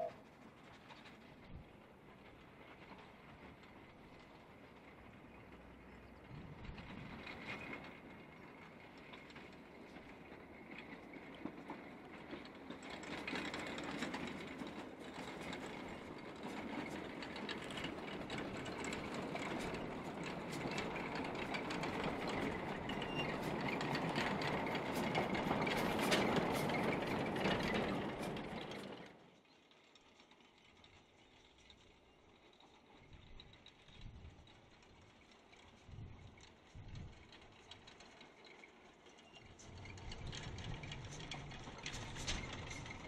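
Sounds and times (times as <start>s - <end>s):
steam train approaching: 0.0s - 33.8s, 36.4s - 43.0s.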